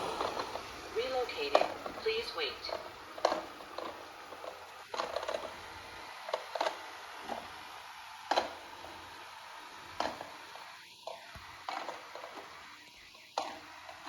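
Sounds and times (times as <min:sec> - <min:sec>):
robot vacuum hissing: 0:00.0 - 0:14.0.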